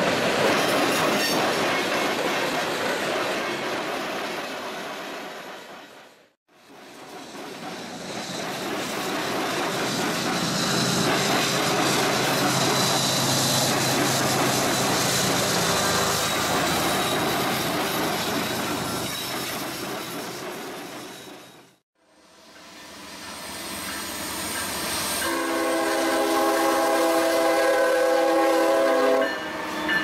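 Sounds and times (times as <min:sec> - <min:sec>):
train wheels rolling on rails: 0:00.0 - 0:21.8, 0:22.5 - 0:30.0.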